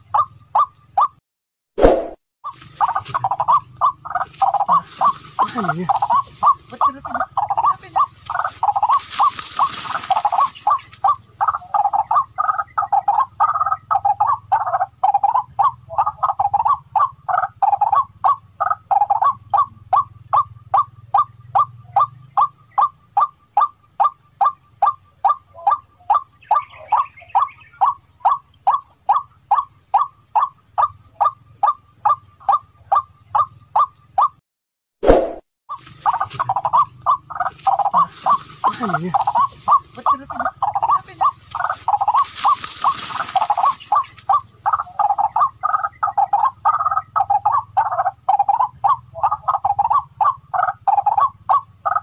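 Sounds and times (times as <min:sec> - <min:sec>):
waterhen calling: 0:01.8 - 0:34.3, 0:35.7 - 0:52.0.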